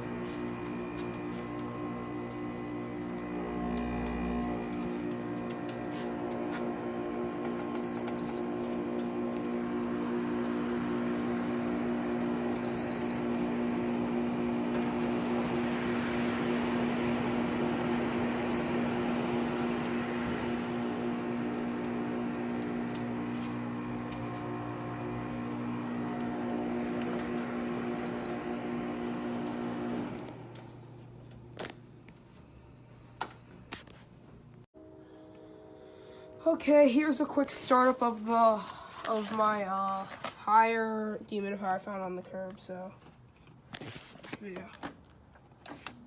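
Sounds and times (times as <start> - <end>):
dehumidifier humming: 0.0 - 40.7.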